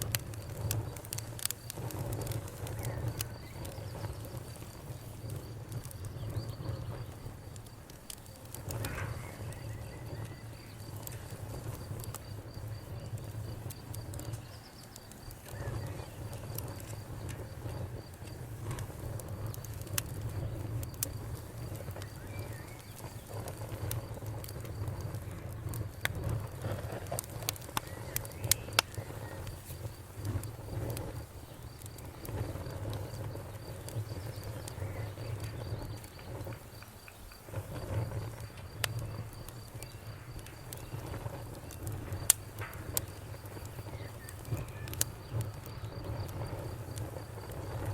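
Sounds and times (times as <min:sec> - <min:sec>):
burning wood rumble: 0:00.0 - 0:47.9
campfire crackling and popping: 0:00.0 - 0:47.9
insect chirping: 0:00.3 - 0:18.4, 0:19.3 - 0:25.8, 0:27.6 - 0:47.9.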